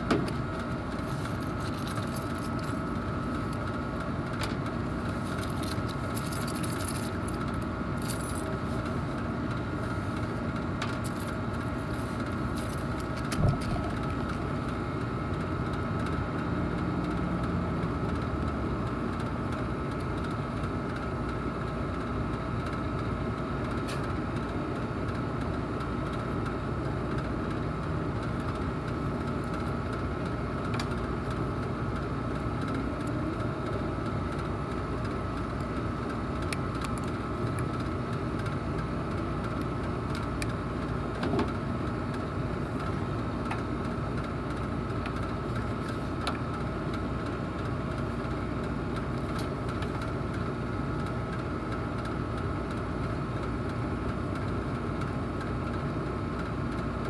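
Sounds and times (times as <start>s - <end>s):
air conditioning drone: 0.0s - 57.0s.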